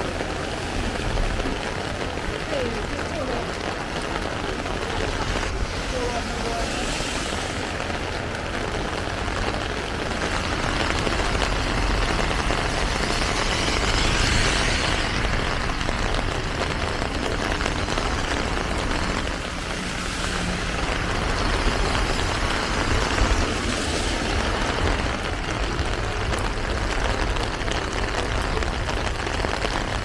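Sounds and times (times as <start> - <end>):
heavy rain hiss: 0.0 - 30.0
traffic noise: 0.0 - 30.0.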